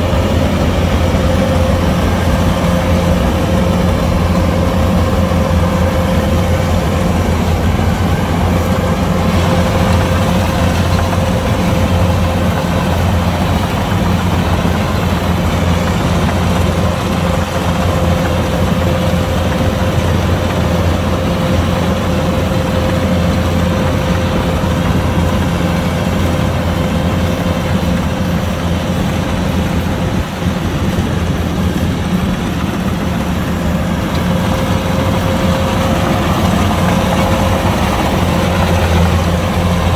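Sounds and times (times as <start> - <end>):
combine harvester running: 0.0 - 39.9
steady machine whine: 0.0 - 39.9.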